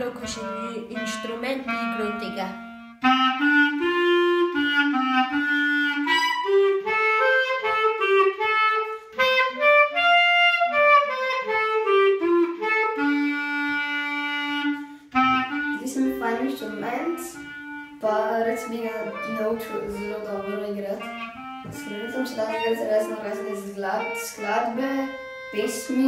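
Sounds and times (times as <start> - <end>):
solo clarinet melody: 0.0 - 26.0.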